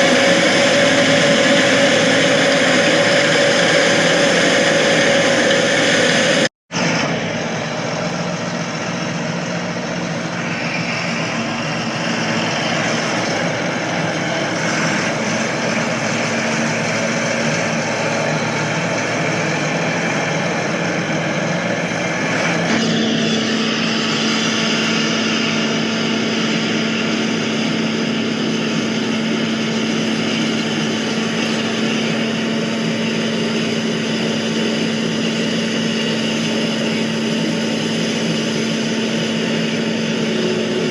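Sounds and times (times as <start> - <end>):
engine humming: 0.0 - 40.9.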